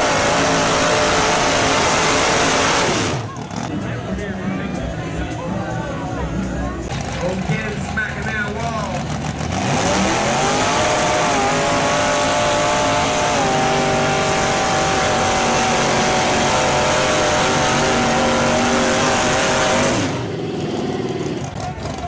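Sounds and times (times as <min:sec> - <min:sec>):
truck engine revving: 0:00.0 - 0:05.3, 0:06.4 - 0:22.0.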